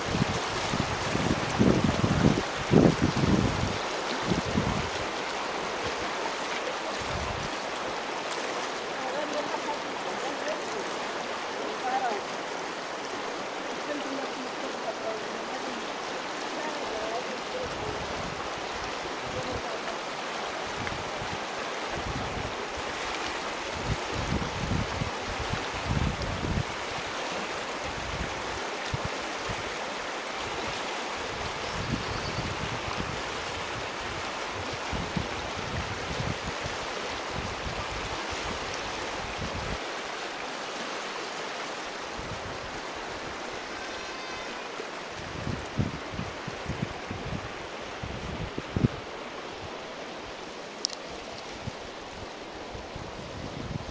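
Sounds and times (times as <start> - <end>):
river rushing over stones: 0.0 - 53.9.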